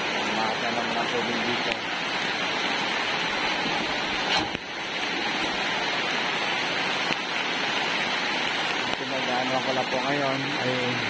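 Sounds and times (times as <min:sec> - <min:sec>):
heavy rain on floodwater: 0:00.0 - 0:11.0.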